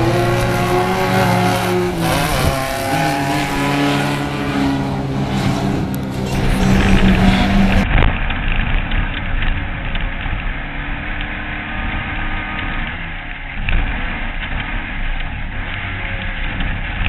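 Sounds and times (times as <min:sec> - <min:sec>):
buggy engine running: 0:00.0 - 0:17.0
rough rumble with rattles: 0:00.0 - 0:17.0.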